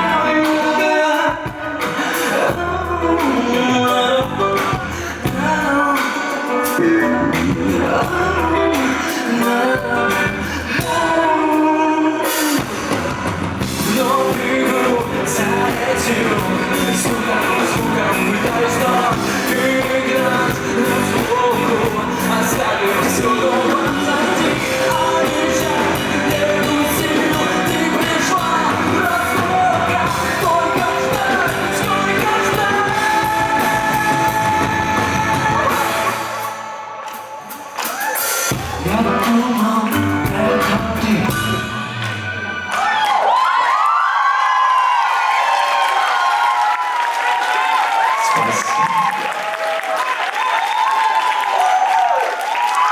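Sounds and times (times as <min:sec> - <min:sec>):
person singing: 0:00.0 - 0:43.4
rock band playing live: 0:00.0 - 0:43.5.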